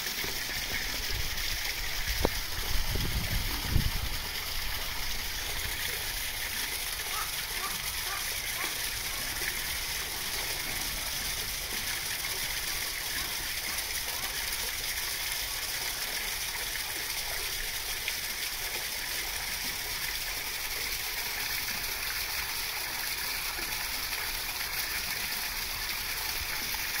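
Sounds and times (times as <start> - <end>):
running water rushing: 0.0 - 27.0.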